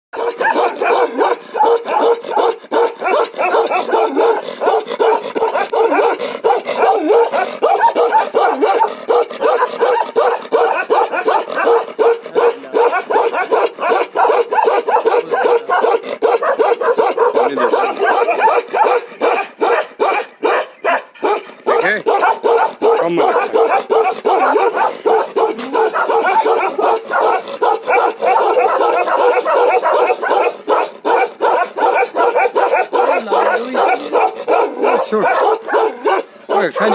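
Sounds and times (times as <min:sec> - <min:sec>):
dog barking rapidly: 0:00.2 - 0:36.9.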